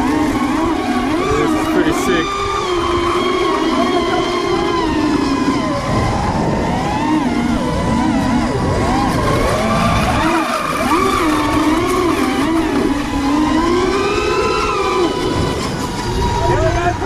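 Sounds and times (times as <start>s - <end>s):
constant low rumble: 0.0s - 17.0s
electric motors whining: 0.0s - 17.0s.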